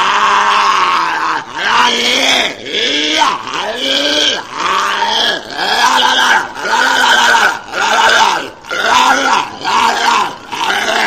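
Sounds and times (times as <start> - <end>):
walrus calling: 0.0 - 11.0.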